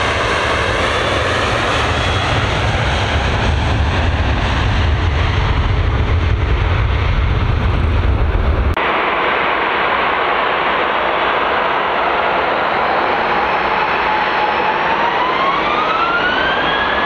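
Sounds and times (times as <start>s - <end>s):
jet engines rumbling at takeoff: 0.0s - 17.0s.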